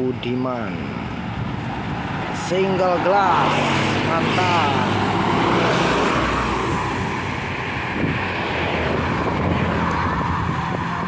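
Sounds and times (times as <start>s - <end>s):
diesel bus engine: 0.0s - 11.0s
road and tyre noise: 0.0s - 11.0s.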